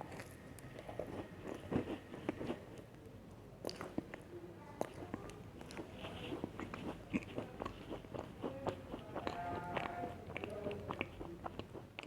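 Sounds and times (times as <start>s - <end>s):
crunching and chewing cookies: 0.0s - 12.0s.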